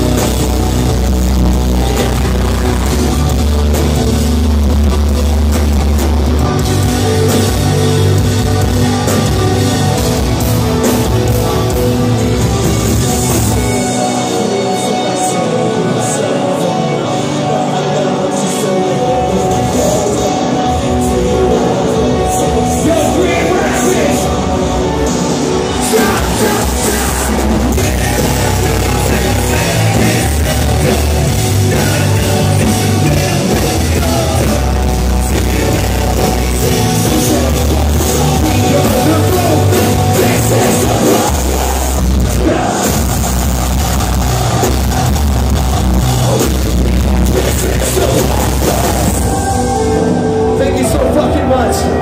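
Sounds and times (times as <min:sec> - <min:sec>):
live heavy rock band: 0:00.0 - 0:52.0.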